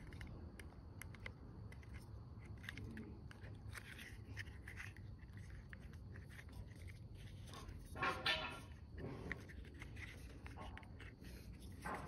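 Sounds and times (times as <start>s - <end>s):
small parts clicking and scraping: 0.0s - 12.0s.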